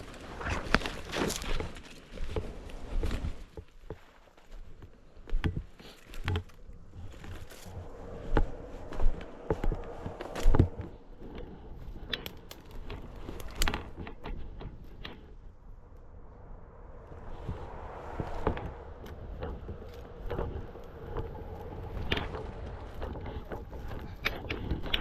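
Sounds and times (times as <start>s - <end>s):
crackles and thumps in dry undergrowth: 0.0s - 25.0s.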